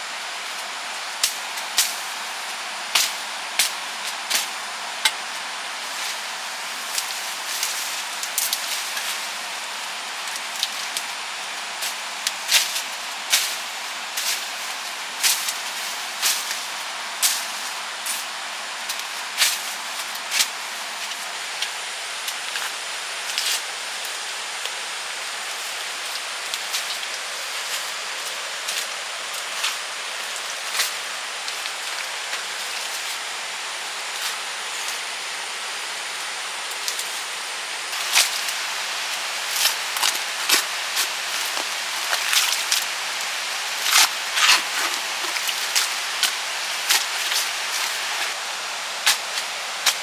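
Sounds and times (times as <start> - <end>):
rain-like hiss: 0.0 - 50.0.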